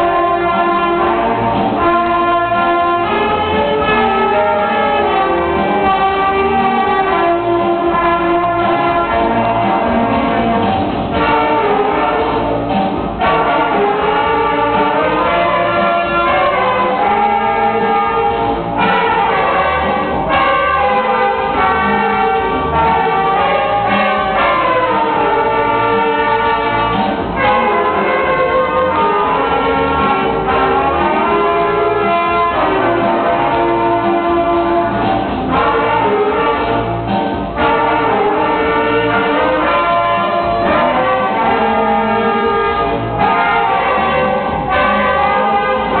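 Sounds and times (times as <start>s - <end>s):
saxophone ensemble playing: 0.0s - 46.0s.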